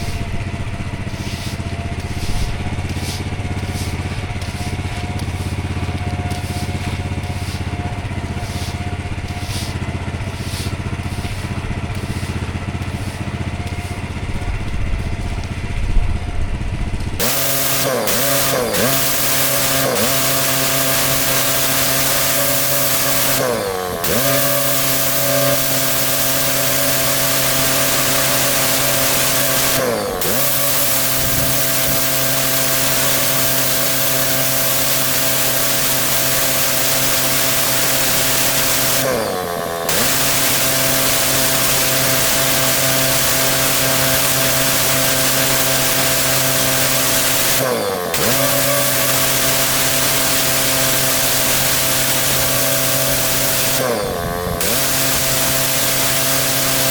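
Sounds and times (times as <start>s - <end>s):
high-pressure water spraying on paving: 0.0s - 15.9s, 17.2s - 56.9s
pressure washer engine running: 0.0s - 56.9s.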